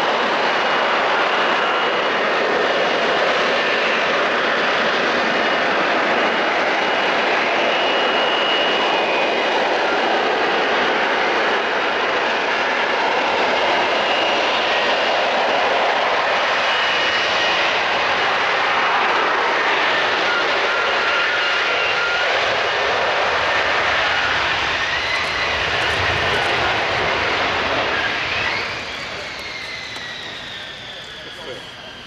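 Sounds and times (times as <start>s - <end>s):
jet engine roar overhead: 0.0s - 32.0s
jet engine whine: 0.0s - 32.0s.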